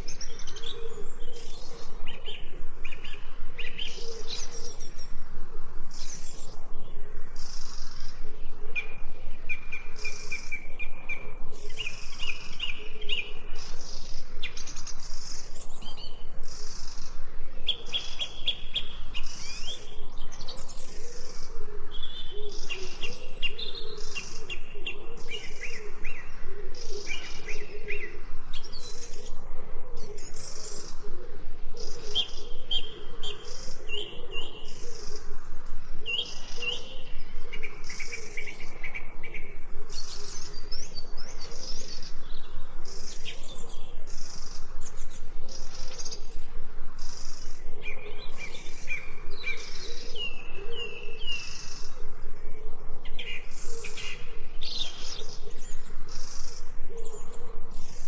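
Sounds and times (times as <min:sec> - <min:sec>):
songbirds chirping and singing: 0:00.0 - 0:58.0.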